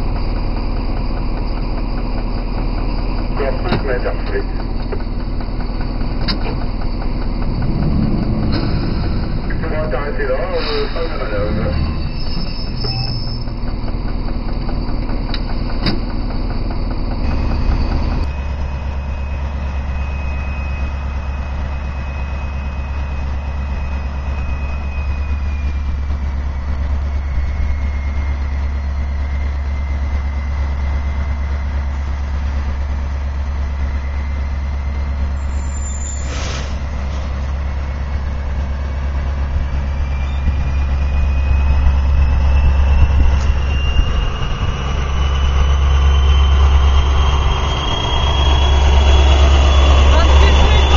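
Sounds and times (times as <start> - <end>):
diesel locomotive idling: 0.0 - 50.9.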